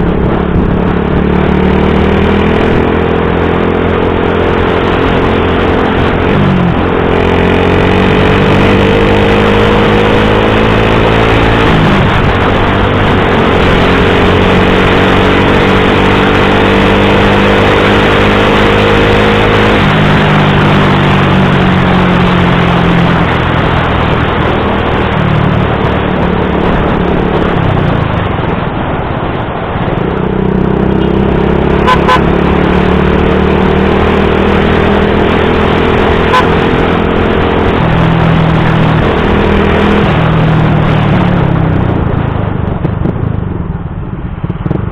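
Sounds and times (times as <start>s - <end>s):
motorcycle engine revving: 0.0s - 44.9s
wind noise on microphone: 0.0s - 44.9s.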